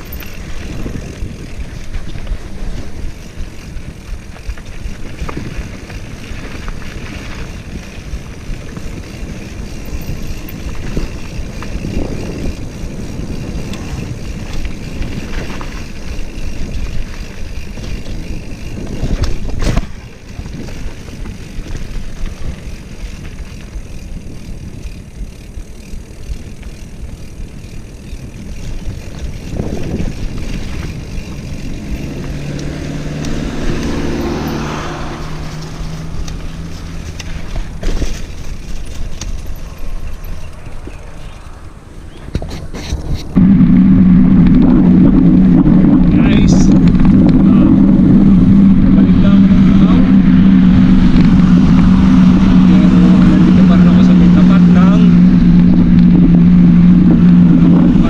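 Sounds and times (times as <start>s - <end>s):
bike rattling over bumps: 0.0s - 58.0s
knobby tyres rolling on dirt: 0.0s - 58.0s
wind buffeting microphone: 0.0s - 58.0s.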